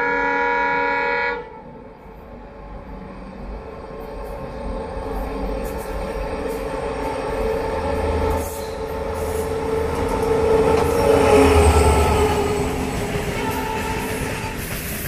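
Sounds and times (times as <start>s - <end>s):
train whine: 0.0s - 15.0s
train wheels rumbling on rail: 0.8s - 15.0s.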